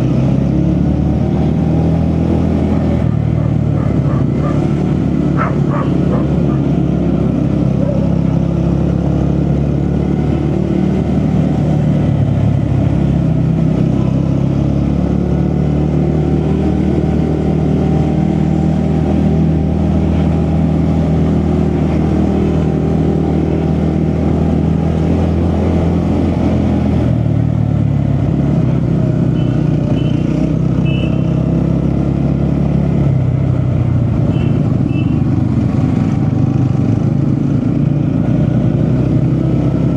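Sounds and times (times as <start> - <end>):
road and wind noise: 0.0 - 39.9
vehicle engine cruising: 0.0 - 39.9.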